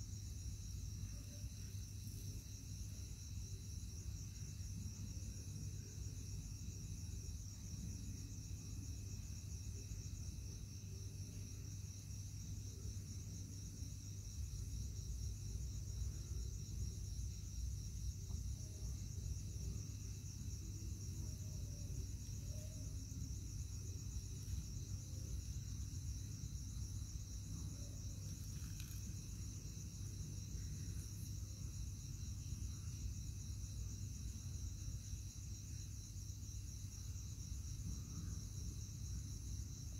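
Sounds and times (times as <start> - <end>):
high insect chirp: 0.0 - 39.9
insects trilling: 0.0 - 39.9.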